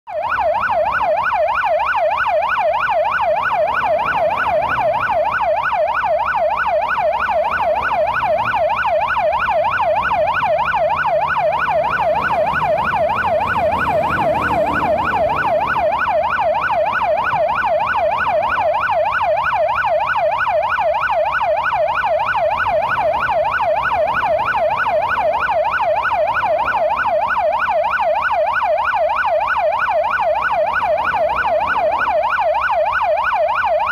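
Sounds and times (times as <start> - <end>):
low rumble of traffic: 0.1 - 33.9
police siren yelping: 0.1 - 33.9.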